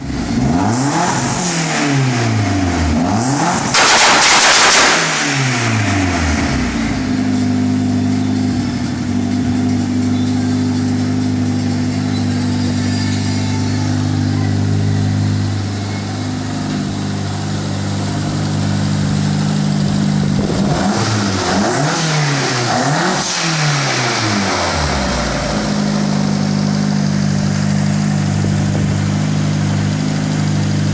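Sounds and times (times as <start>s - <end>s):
car engine revving and idling: 0.0s - 30.9s.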